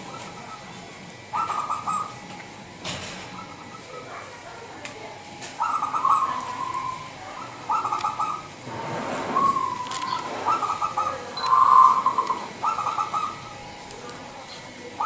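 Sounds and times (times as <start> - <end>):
dove cooing: 0.0 - 2.3, 3.1 - 4.4, 5.6 - 15.0.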